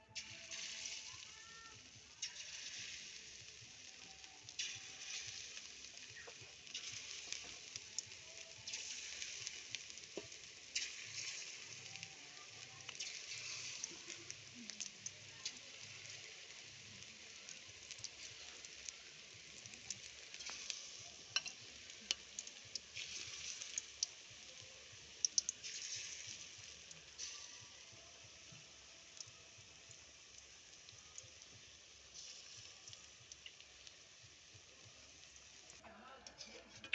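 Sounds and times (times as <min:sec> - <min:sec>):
fritters sizzling in oil: 0:00.0 - 0:36.9.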